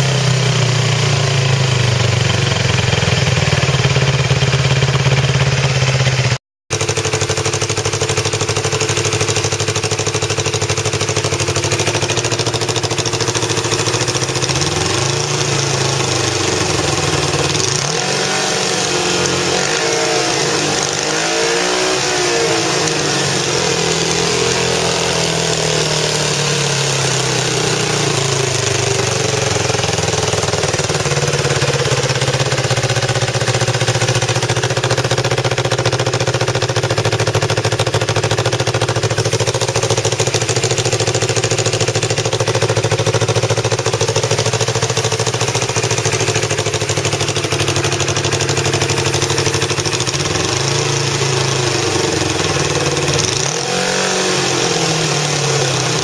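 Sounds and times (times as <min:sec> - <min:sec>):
motorcycle engine revving and idling: 0:00.0 - 0:56.0.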